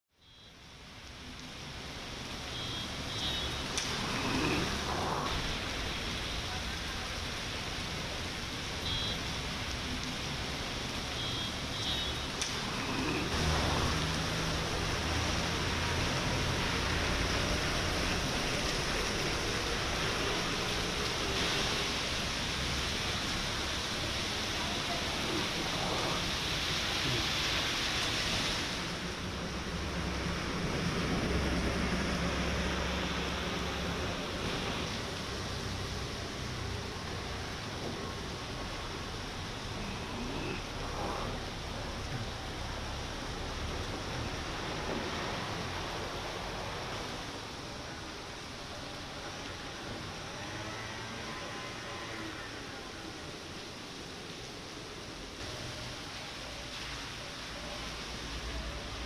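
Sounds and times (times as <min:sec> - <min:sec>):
distant traffic rumble: 0:00.1 - 0:59.0
heavy rain on road: 0:00.2 - 0:59.0.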